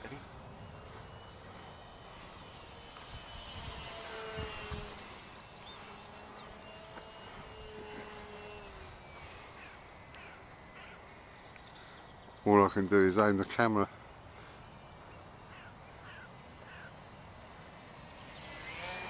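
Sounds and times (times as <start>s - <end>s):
electric motor high whine: 0.0s - 19.0s.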